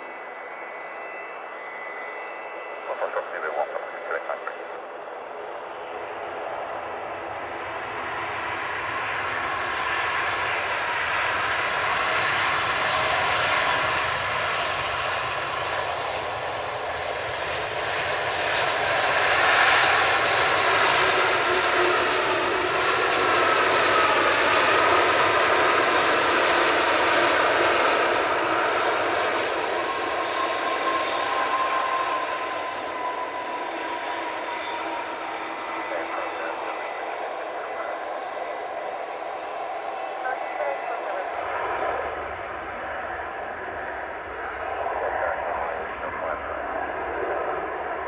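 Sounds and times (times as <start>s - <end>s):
jet engines at take-off power: 0.0s - 48.0s.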